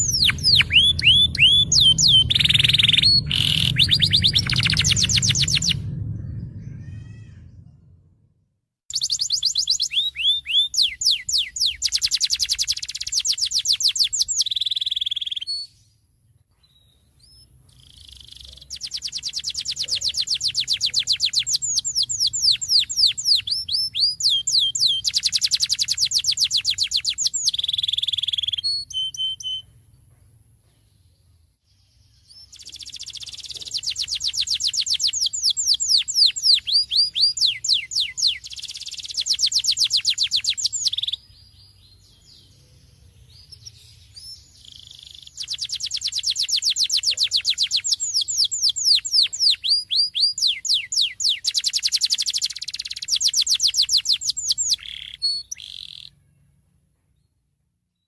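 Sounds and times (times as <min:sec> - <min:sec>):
canary singing trills: 0:00.0 - 0:07.7, 0:08.9 - 0:15.9, 0:16.6 - 0:29.8, 0:32.2 - 0:56.6.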